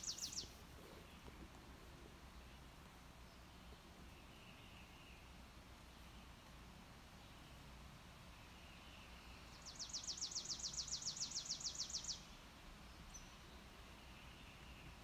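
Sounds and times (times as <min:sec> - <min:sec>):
songbird trill: 0:00.0 - 0:01.4, 0:02.4 - 0:06.5, 0:07.2 - 0:15.0.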